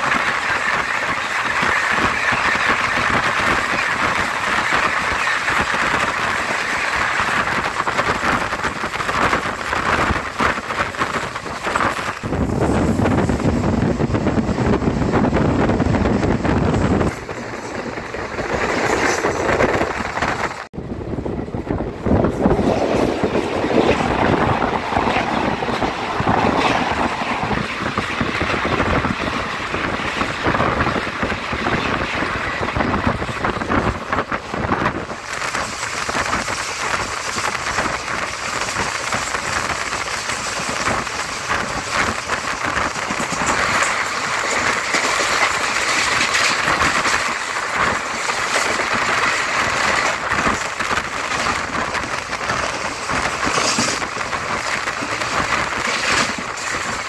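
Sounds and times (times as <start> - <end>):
express train passing at speed: 0.0 - 57.0.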